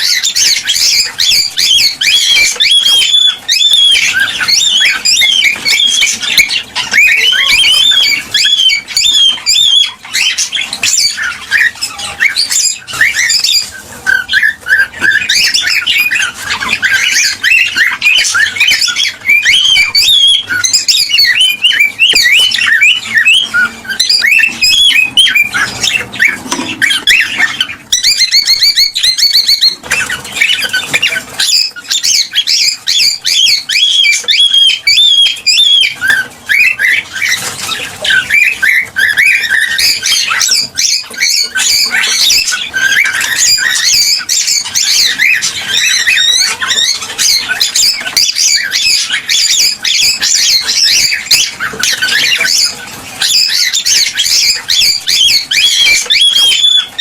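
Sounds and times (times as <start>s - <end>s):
cockatiels chirping and squawking: 0.0s - 57.0s.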